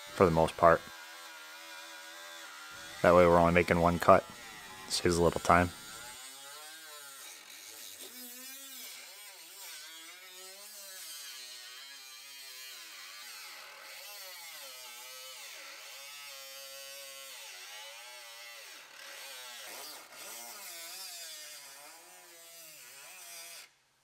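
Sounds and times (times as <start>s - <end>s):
die grinder cutting metal: 0.0s - 23.7s.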